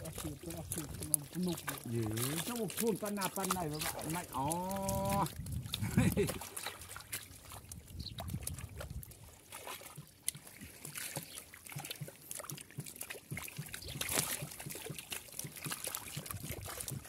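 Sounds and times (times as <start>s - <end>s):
fish flapping and splashing: 0.0s - 17.0s
water trickling: 0.0s - 17.0s.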